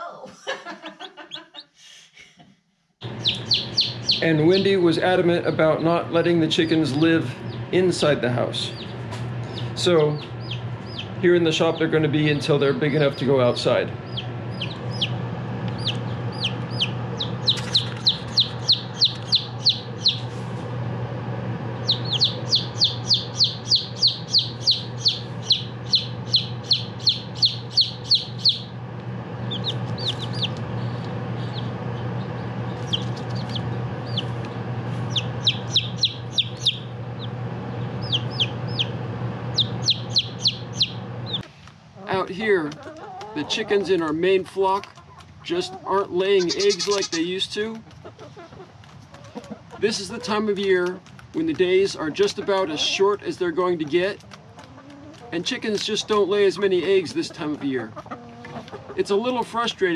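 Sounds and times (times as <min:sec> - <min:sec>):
chicks peeping: 0:03.0 - 0:59.9
steady low hum: 0:03.0 - 0:59.9.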